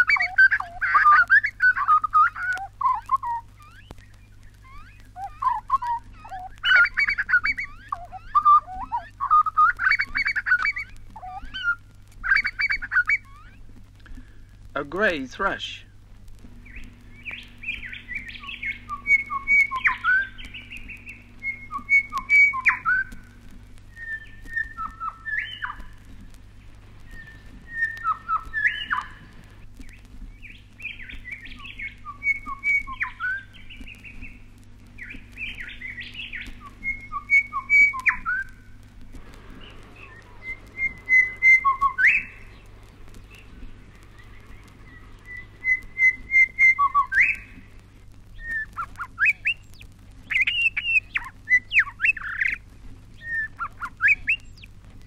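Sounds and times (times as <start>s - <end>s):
bird singing whistled phrases: 0.0s - 13.7s, 16.6s - 26.0s, 27.0s - 29.4s, 30.3s - 38.7s, 39.6s - 42.6s, 43.2s - 47.7s, 48.3s - 52.6s, 53.2s - 54.7s
faint low hum: 0.0s - 55.0s.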